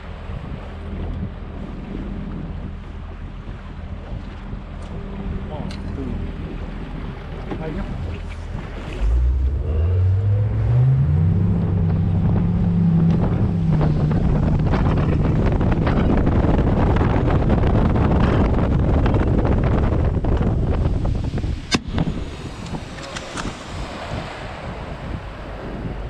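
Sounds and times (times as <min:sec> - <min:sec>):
outboard motor running: 0:00.0 - 0:26.0
water rushing past hull: 0:00.0 - 0:26.0
wind buffeting microphone: 0:00.0 - 0:26.0.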